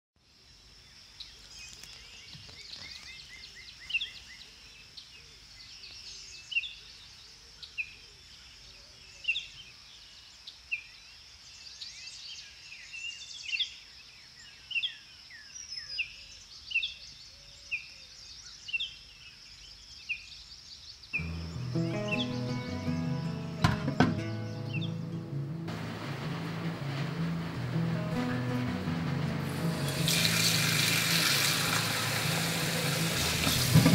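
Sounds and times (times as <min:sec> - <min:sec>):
wild birds chirping: 0:00.3 - 0:33.9.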